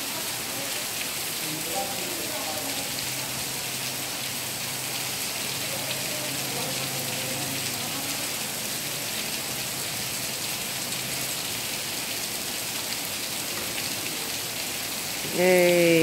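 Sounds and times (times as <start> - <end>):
heavy rain on water and paving: 0.0 - 16.0.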